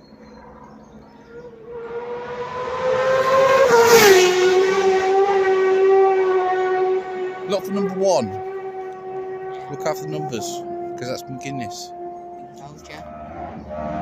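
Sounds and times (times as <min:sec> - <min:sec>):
racing motorcycle passing: 0:00.0 - 0:14.0.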